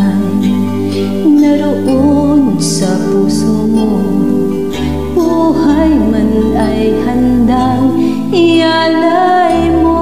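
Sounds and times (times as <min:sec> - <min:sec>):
guitar backing track: 0:00.0 - 0:10.0
woman singing a slow ballad: 0:00.0 - 0:10.0.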